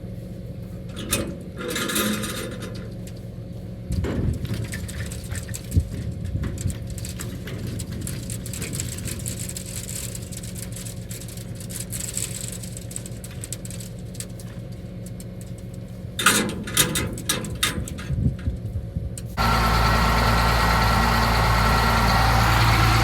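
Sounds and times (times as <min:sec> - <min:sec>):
tractor engine idling: 0:00.0 - 0:17.7, 0:19.4 - 0:23.0.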